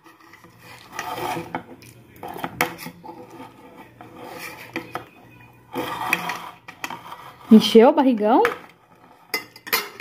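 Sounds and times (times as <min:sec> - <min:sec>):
fork scraping metal plate: 0:00.0 - 0:07.8, 0:08.6 - 0:10.0.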